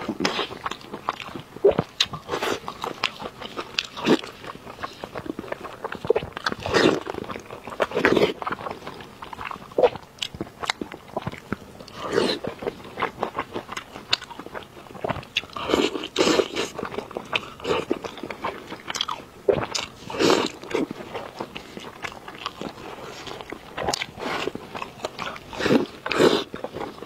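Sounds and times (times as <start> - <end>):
biting and chewing meat: 0.0 - 27.0.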